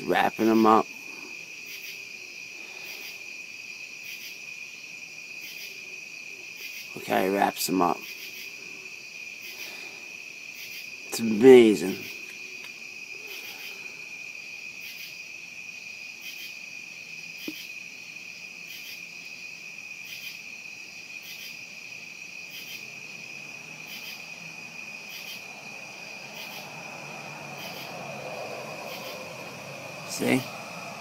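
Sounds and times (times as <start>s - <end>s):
insect high-pitched trill: 0.0s - 31.0s
insect short chirp: 0.0s - 31.0s.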